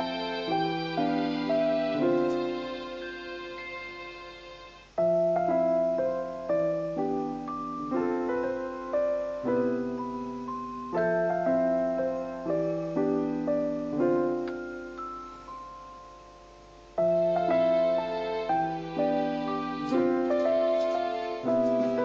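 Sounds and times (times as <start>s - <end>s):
slow solo piano: 0.0s - 22.0s.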